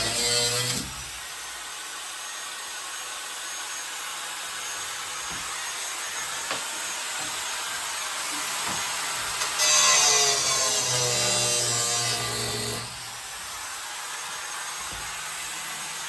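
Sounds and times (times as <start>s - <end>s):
grinder cutting metal: 0.0s - 16.0s.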